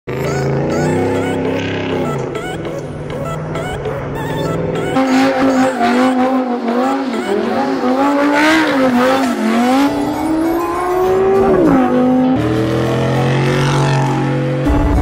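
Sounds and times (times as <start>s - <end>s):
tyres squealing: 0.1s - 13.6s
car engine revving: 0.1s - 15.0s.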